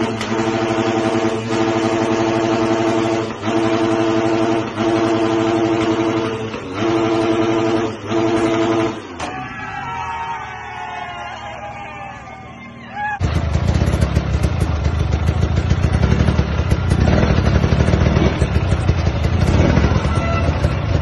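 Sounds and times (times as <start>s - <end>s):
dirt bike engine revving: 0.0s - 9.8s, 13.2s - 21.0s.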